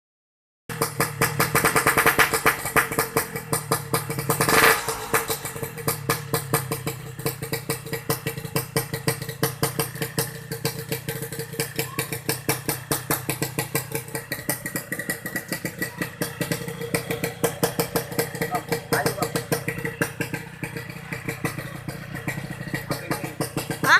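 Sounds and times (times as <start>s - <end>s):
motorcycle engine idling and revving: 0.7s - 23.9s.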